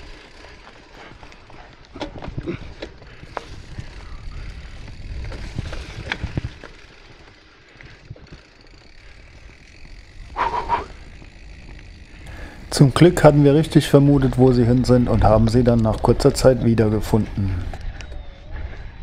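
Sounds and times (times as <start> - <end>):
bike clicks and rattles: 0.0 - 19.0
bike tyres rumbling on trail: 0.0 - 19.0
wind: 0.0 - 19.0.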